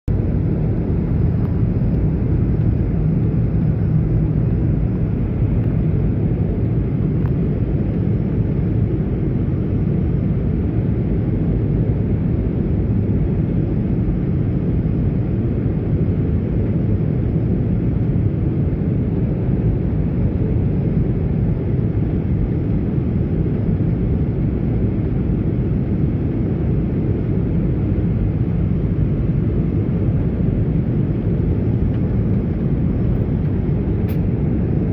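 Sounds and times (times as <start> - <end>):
airliner engines in flight: 0.1 - 34.9.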